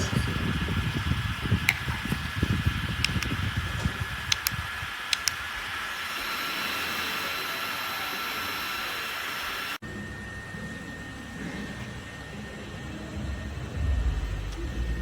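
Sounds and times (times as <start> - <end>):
small fan running: 0.0 - 15.0.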